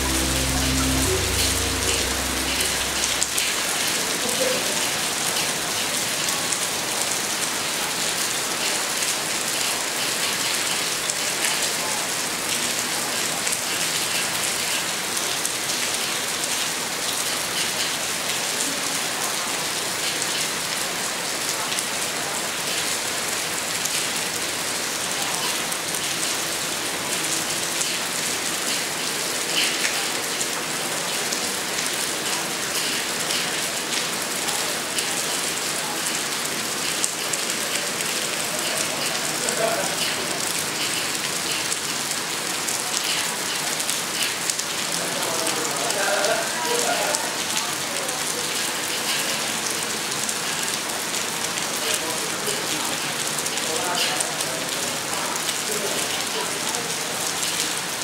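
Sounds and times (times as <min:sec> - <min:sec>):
rain falling on leaves: 0:00.0 - 0:03.1, 0:04.2 - 0:58.0.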